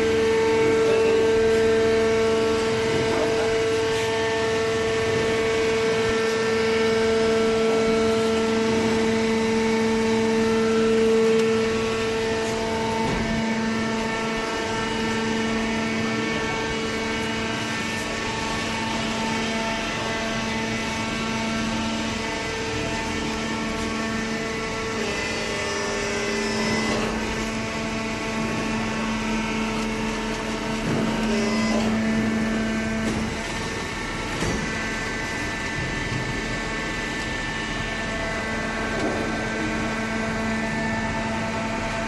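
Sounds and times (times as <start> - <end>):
hydraulic power unit humming: 0.0 - 42.0.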